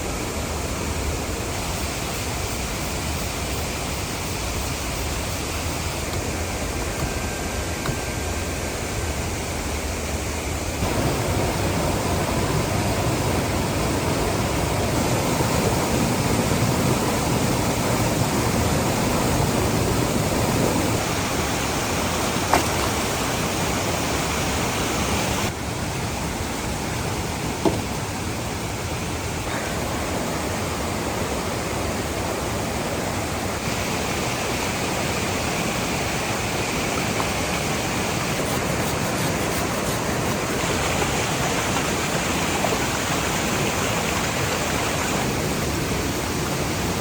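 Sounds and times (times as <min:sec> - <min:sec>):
waterfall roaring: 0:00.0 - 0:47.0.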